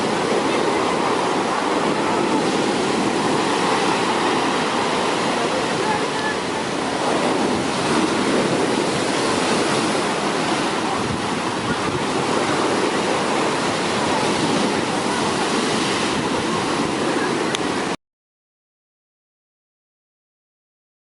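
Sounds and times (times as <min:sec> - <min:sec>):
wind buffeting microphone: 0:00.0 - 0:17.9
sea surf breaking on beach: 0:00.0 - 0:18.0.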